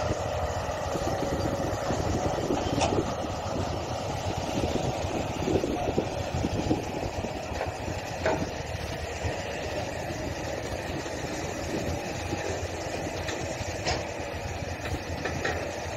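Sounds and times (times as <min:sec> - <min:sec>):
truck engines idling: 0:00.0 - 0:15.9.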